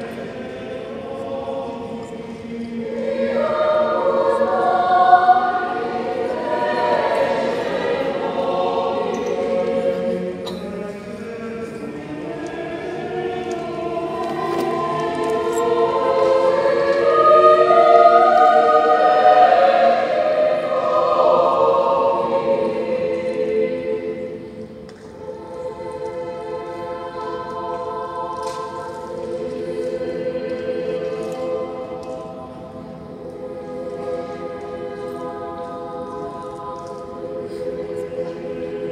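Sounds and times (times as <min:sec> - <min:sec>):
choir singing sustained chords: 0:00.0 - 0:38.9.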